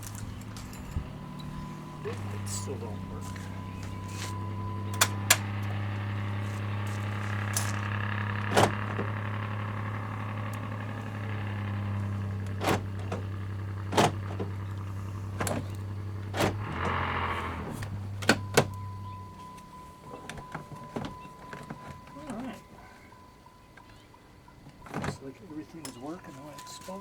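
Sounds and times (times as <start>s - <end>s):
low vehicle hum: 0.0s - 27.0s
power window motor running: 0.0s - 27.0s.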